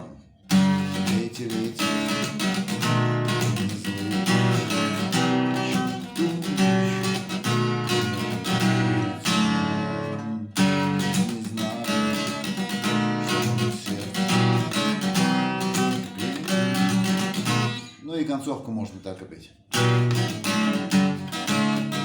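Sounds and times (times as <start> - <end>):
acoustic guitar strumming: 0.0 - 18.2, 19.7 - 22.0.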